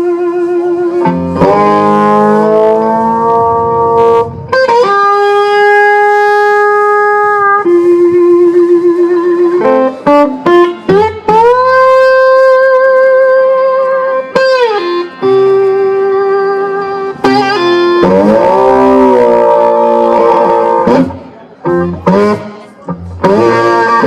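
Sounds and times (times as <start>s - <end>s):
electric guitar lead: 0.0s - 24.0s.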